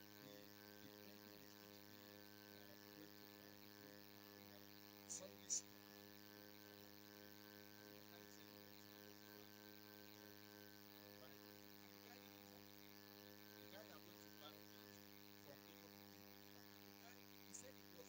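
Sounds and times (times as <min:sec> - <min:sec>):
faint electrical mains hum: 0:00.0 - 0:18.0.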